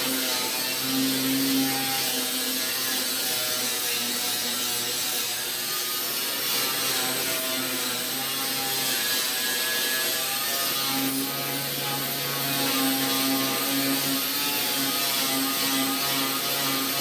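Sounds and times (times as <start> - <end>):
angle grinder on sheet metal: 0.0 - 17.0.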